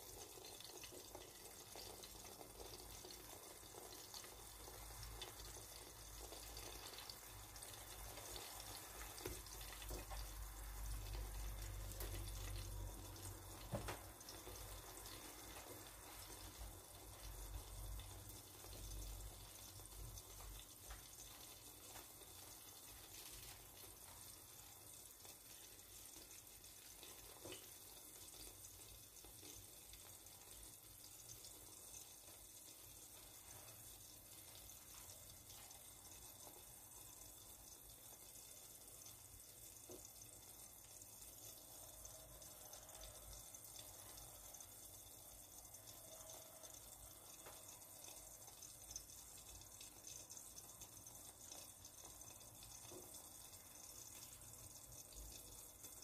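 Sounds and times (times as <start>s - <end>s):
eggs sizzling in a pan: 0.0s - 56.0s.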